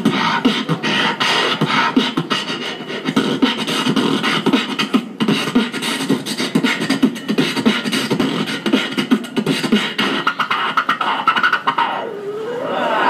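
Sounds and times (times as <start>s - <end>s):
beatboxing through a speaker: 0.0s - 12.4s.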